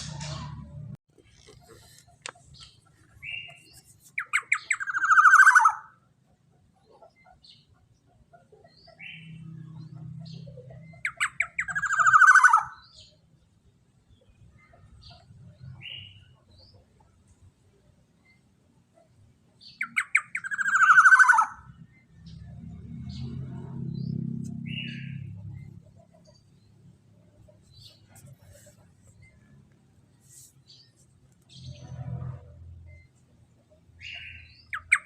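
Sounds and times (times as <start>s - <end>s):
faint bird chirps: 1.3s - 23.3s, 23.9s - 35.0s.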